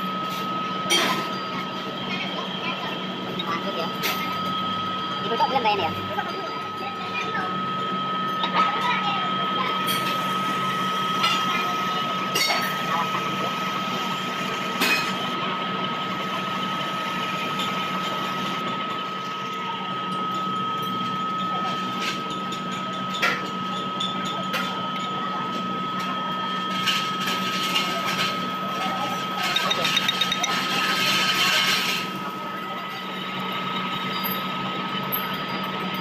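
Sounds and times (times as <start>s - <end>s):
metal lathe humming and whining: 0.0s - 36.0s.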